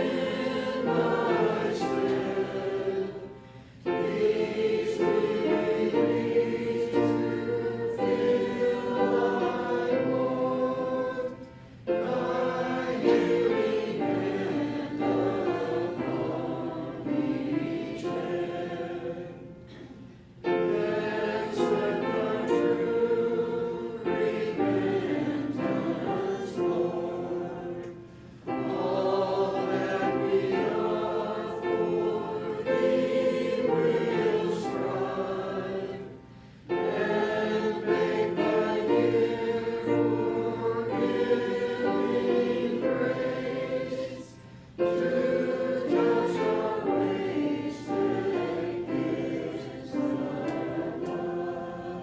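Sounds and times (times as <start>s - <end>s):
congregation singing a hymn: 0.0s - 52.0s.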